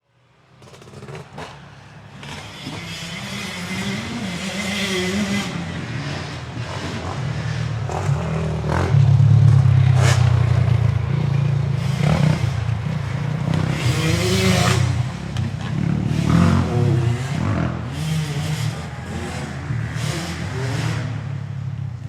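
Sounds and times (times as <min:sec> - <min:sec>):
motorcycle engine revving: 0:00.5 - 0:22.0.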